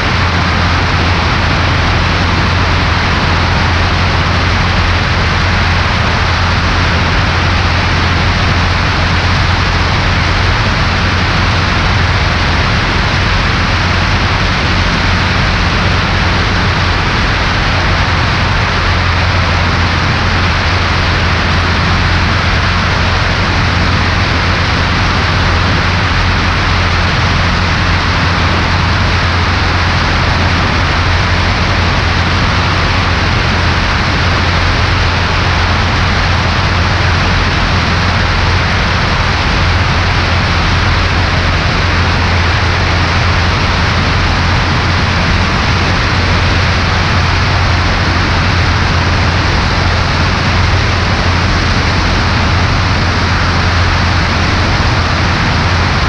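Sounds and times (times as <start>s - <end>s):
aircraft engine drone: 0.0s - 56.0s.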